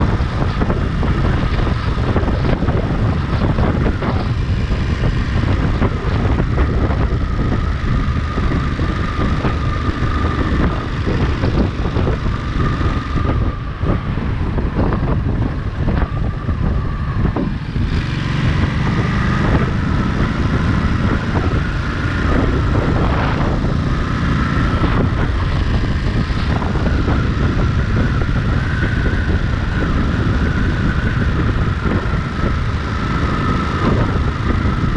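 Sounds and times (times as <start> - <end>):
motorcycle engine running: 0.0 - 34.9
wind noise on microphone: 0.0 - 34.9.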